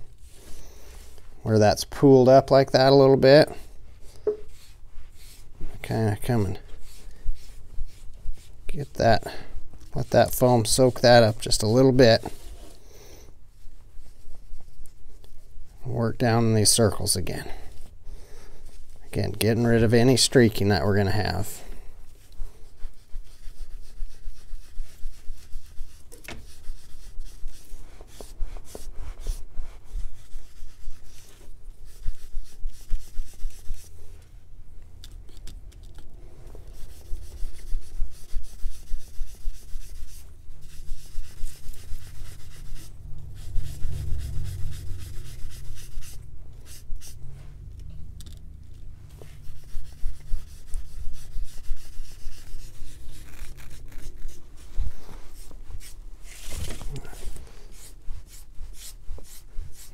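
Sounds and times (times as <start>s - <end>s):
foam brush rubbing leather: 0.0s - 1.4s, 3.6s - 12.9s, 16.3s - 34.2s, 36.6s - 47.7s, 48.8s - 59.9s.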